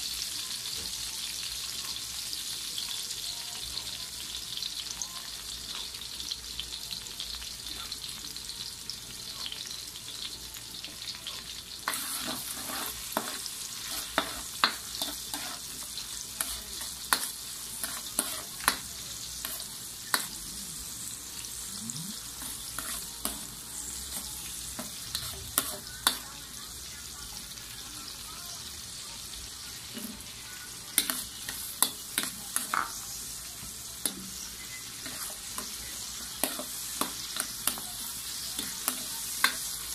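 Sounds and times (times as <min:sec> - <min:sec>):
vegetables sizzling in a wok: 0:00.0 - 0:39.9.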